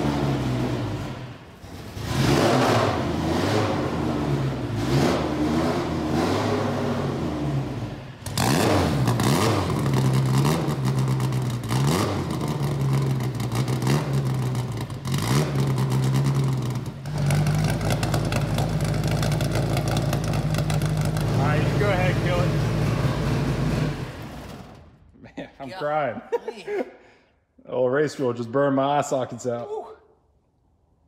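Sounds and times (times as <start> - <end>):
race car engine revving: 0.0 - 24.9.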